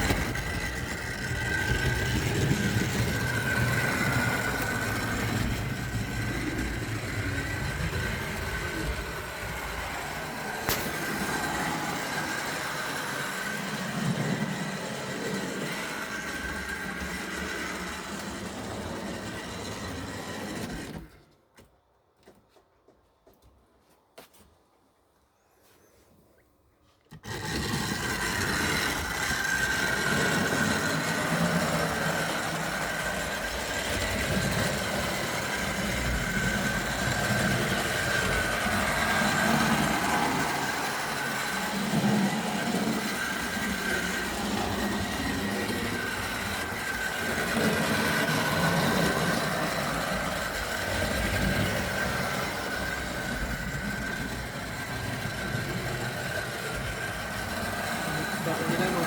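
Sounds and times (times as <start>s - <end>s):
wheels clattering on rail: 0.0s - 21.1s, 27.2s - 59.0s
model train motor whine: 0.0s - 21.2s, 27.1s - 59.0s.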